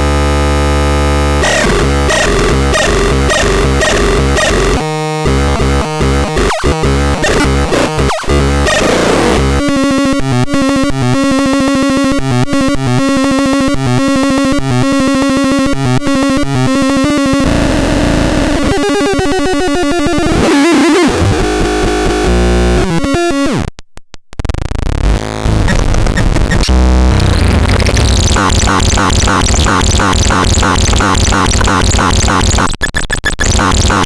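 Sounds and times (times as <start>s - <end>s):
electronic synthesizer tones: 0.0s - 23.7s, 25.0s - 34.0s.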